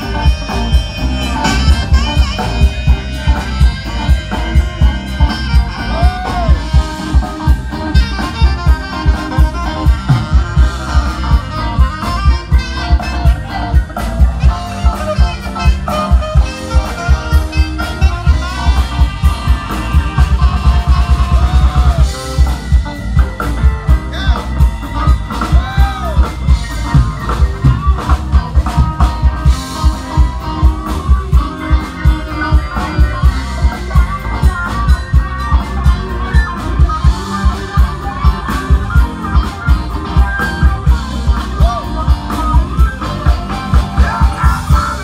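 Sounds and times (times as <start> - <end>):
live band playing: 0.0 - 45.0.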